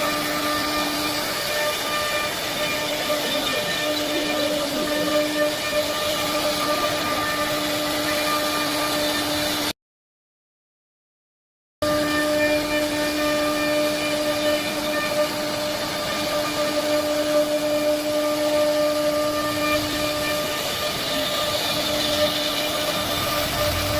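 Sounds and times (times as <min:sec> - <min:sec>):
router spindle high whine: 0:00.0 - 0:09.7, 0:11.8 - 0:23.9.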